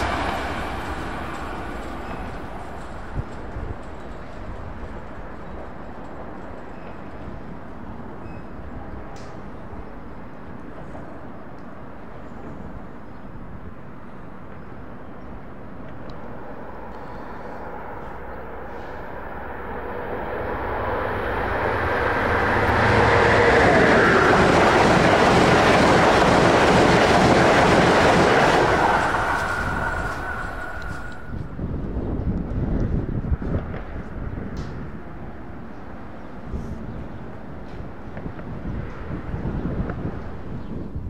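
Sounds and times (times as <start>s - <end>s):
train passing at speed: 0.0s - 41.0s.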